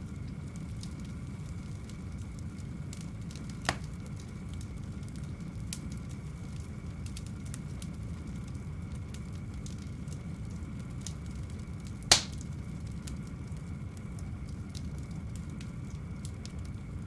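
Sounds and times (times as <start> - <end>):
fire crackling and popping: 0.0 - 17.0
wood fire rumbling: 0.0 - 17.0.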